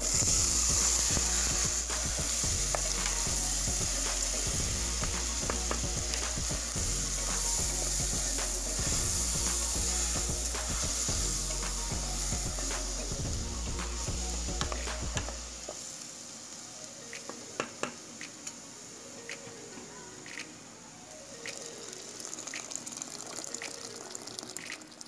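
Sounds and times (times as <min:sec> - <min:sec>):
rice sizzling in pot: 0:00.0 - 0:25.0.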